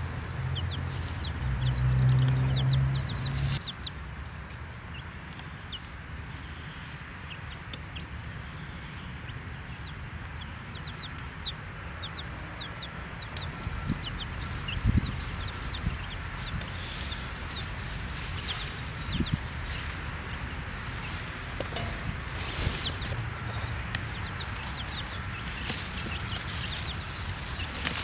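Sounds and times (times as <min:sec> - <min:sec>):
baby chicks peeping: 0:00.0 - 0:28.0.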